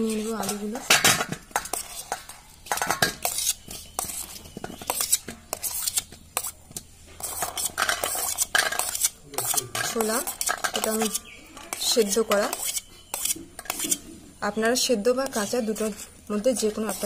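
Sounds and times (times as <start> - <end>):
metal spoon scraping steel bowl: 0.0 - 6.6, 7.2 - 14.2, 14.8 - 17.0.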